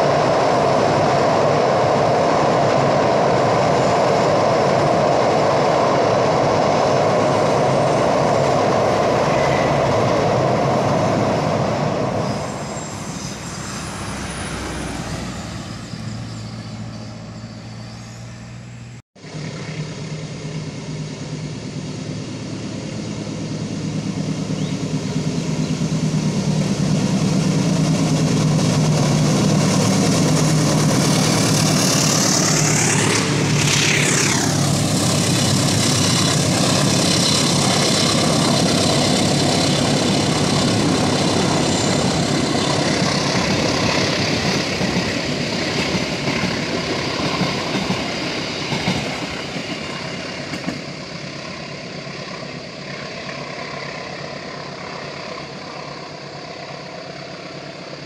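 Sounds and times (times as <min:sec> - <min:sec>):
diesel train passing: 0:00.0 - 0:58.0
train rumbling over steel bridge: 0:00.0 - 0:58.0.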